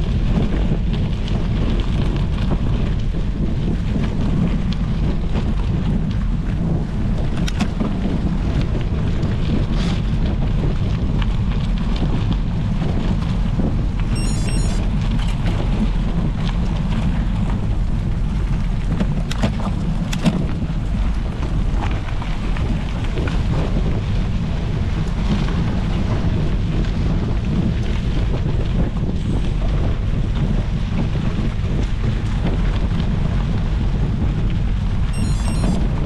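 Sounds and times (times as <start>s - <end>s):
bike rolling over cobblestones: 0.0s - 14.2s, 14.8s - 36.0s
wind buffeting microphone: 0.0s - 36.0s.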